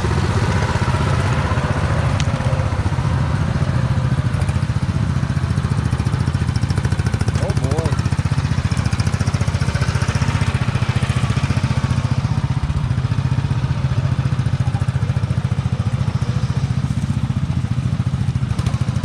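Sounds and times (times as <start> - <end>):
lawn tractor engine running: 0.0 - 19.0.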